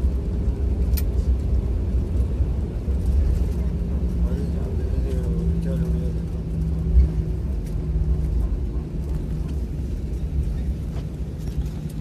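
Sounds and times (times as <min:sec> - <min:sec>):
airplane cabin rumble: 0:00.0 - 0:12.0
jet engine hum: 0:00.0 - 0:12.0.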